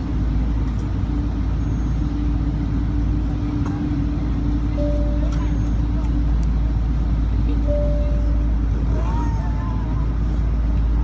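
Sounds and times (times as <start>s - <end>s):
airliner engine and airframe rumble: 0.0s - 11.0s.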